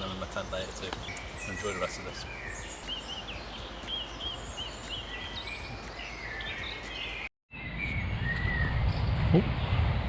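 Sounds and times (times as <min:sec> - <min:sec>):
birds singing and calling: 0:00.0 - 0:09.8.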